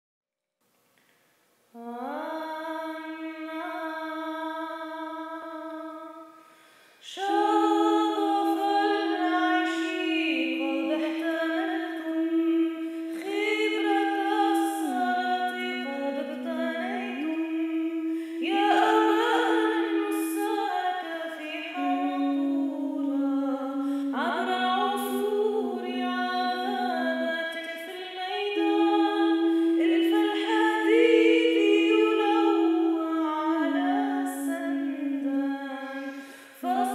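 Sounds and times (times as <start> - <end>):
woman chanting: 1.8 - 6.2, 7.0 - 36.9
woman singing drone: 7.1 - 36.9.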